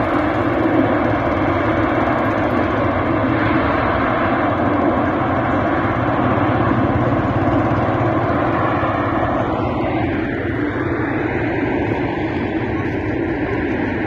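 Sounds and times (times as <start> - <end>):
oil fire roaring: 0.0 - 14.0.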